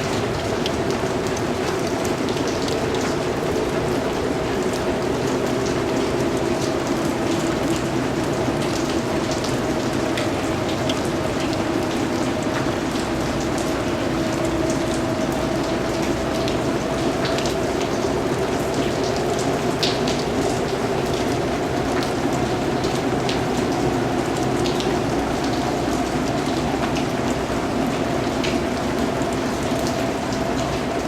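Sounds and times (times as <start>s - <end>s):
raindrops ticking on surface: 0.0s - 31.0s
steady rain hiss: 0.0s - 31.0s.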